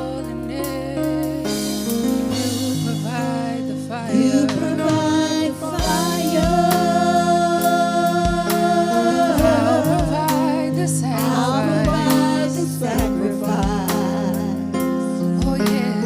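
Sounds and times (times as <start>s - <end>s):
sustained keyboard chords: 0.0s - 16.0s
person singing long wavering notes: 2.4s - 16.0s.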